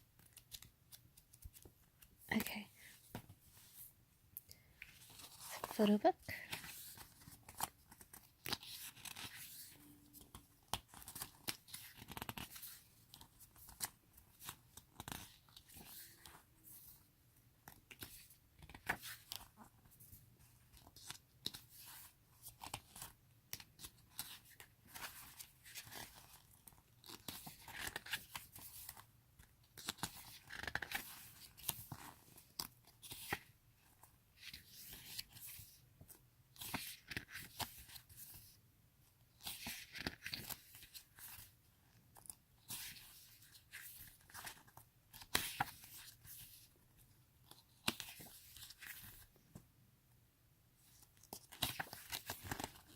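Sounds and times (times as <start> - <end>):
pages turning with paper rustles: 0.0 - 4.0, 4.8 - 38.6, 39.3 - 49.4, 50.8 - 52.9.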